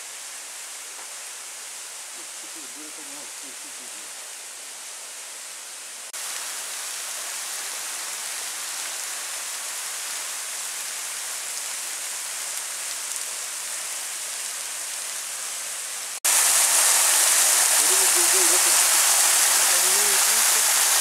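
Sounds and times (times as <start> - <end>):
water falling and splashing: 0.0 - 21.0.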